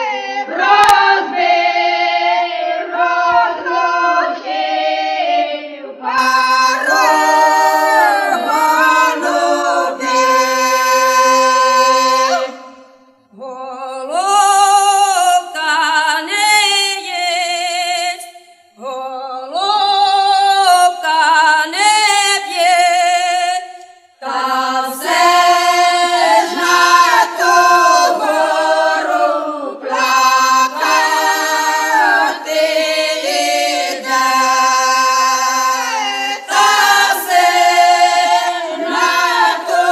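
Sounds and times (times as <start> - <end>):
unaccompanied choral singing: 0.0 - 39.9.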